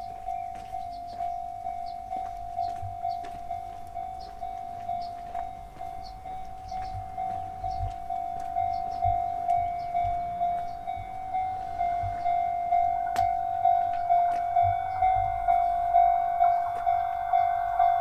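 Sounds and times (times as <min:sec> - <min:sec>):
level-crossing alarm ringing: 0:00.0 - 0:18.0.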